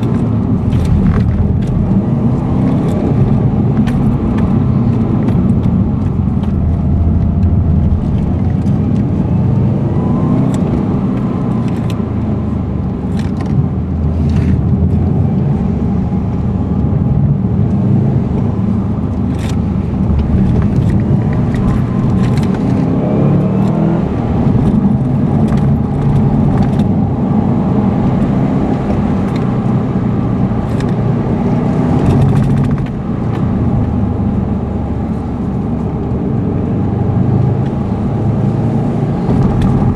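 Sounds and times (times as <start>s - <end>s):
car engine and road drone: 0.0s - 39.9s.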